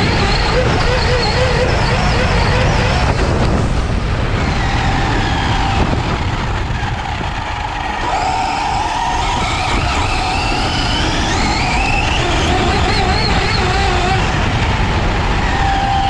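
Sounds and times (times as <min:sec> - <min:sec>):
electric motors whining: 0:00.0 - 0:16.0
wind and grass rushing: 0:01.6 - 0:15.9.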